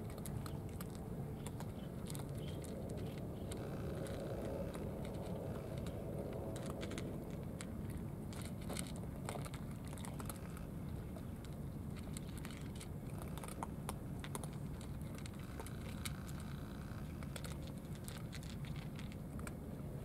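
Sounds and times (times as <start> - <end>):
cats chewing with crunches: 0.0 - 20.0
low background rumble: 0.0 - 20.0.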